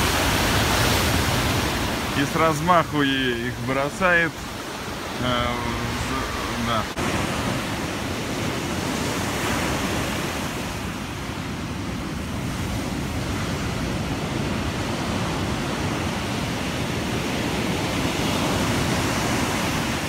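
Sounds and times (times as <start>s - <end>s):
sea surf breaking on beach: 0.0s - 20.0s.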